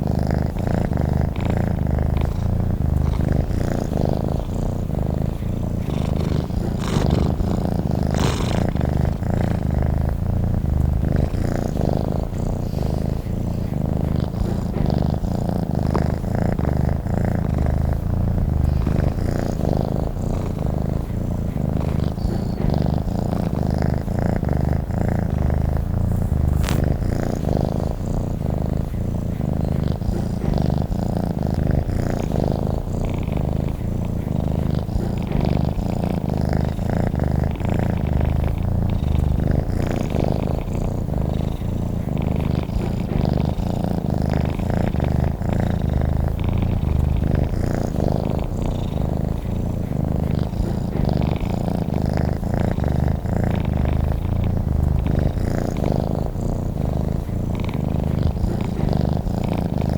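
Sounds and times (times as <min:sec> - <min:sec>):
cat purring: 0:00.0 - 0:59.9.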